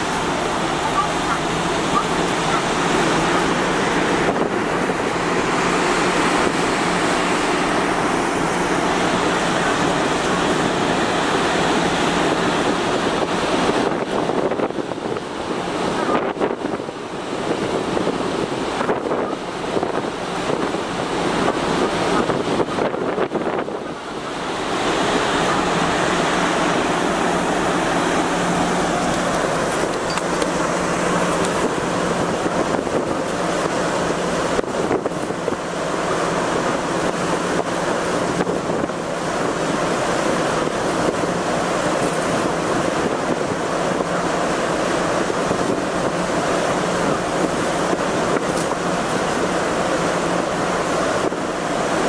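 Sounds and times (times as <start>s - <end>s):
low ship hum: 0.0s - 52.0s
wind rushing across microphone: 0.0s - 52.0s.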